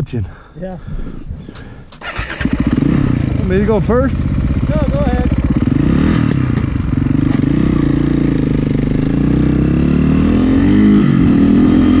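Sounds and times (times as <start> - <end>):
snowbike engine revving: 2.0 - 12.0.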